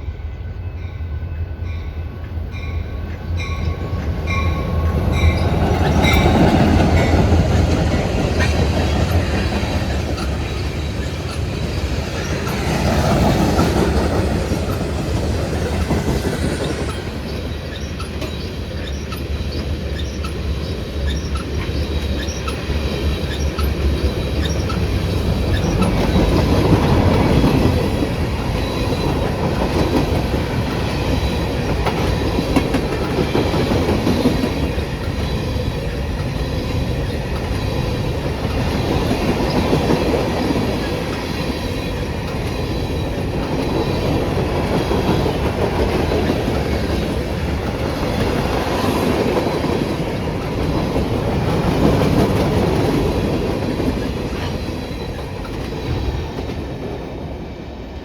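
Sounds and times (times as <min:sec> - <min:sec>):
rumble of rolling rail cars: 0:00.0 - 0:58.0
wheels clicking over rail joints: 0:05.1 - 0:57.0.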